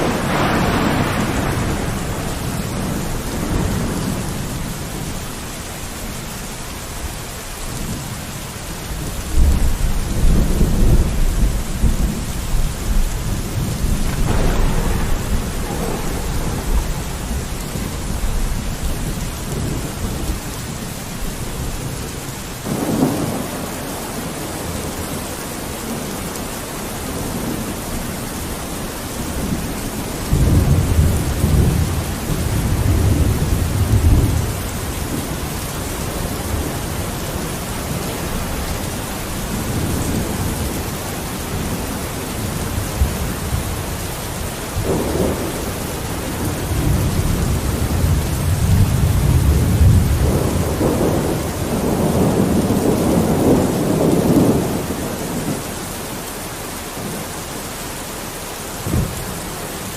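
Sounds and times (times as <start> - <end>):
rolling thunder: 0.0 - 55.8
rain falling on a window: 0.0 - 59.9.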